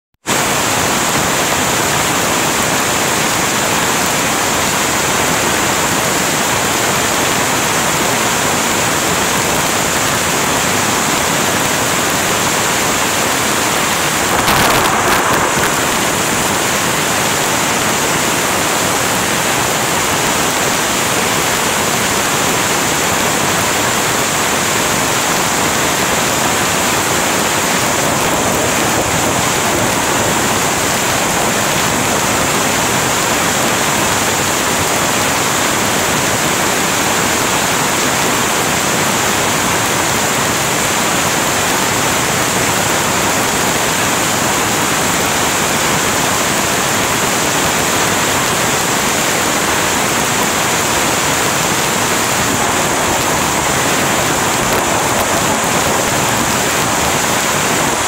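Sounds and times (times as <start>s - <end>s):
heavy rain falling: 0.2s - 58.0s.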